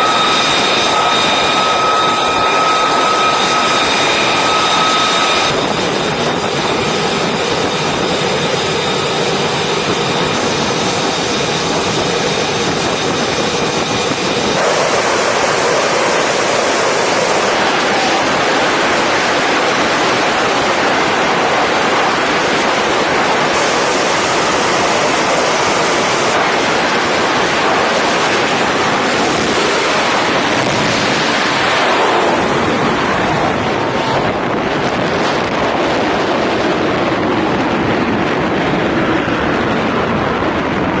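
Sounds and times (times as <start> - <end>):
jet engine roar: 0.0 - 41.0.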